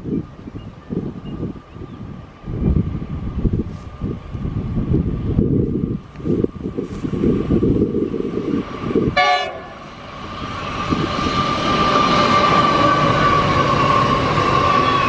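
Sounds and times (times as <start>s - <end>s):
freight train engine and wheels: 0.0s - 15.0s
wind buffeting microphone: 0.0s - 15.0s.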